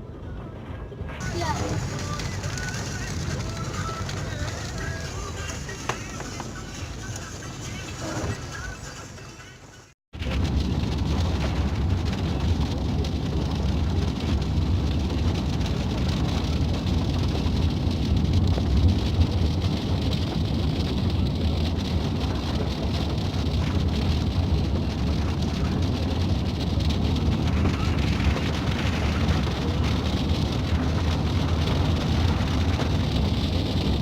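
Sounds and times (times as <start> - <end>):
deep low rumble: 0.0 - 6.8, 10.2 - 34.0
heavy rain: 1.2 - 34.0.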